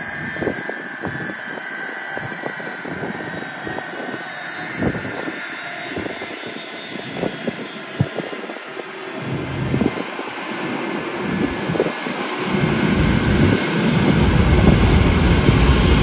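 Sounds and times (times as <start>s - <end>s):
jet engine roar with whine: 0.0s - 16.0s
wind buffeting microphone: 0.0s - 16.0s.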